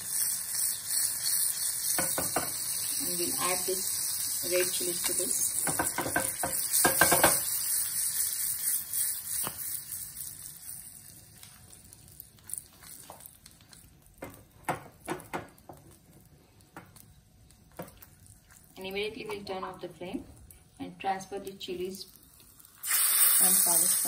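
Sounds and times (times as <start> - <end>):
chilies sizzling in hot oil: 0.0 - 24.0.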